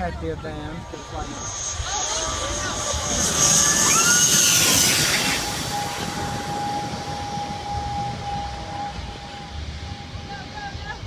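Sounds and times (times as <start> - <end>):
turboprop airliner passing overhead: 0.0 - 11.0.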